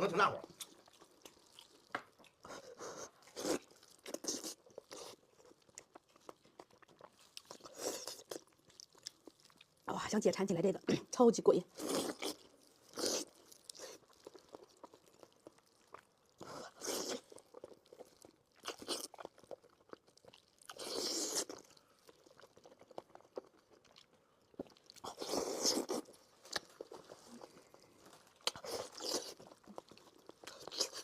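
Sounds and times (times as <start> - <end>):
close chewing mouth clicks: 0.5 - 9.8, 11.8 - 31.0.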